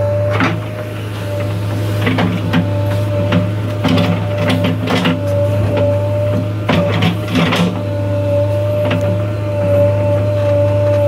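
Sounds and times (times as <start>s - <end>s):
diesel engine running: 0.0s - 11.0s
hydraulic whine: 0.0s - 11.0s.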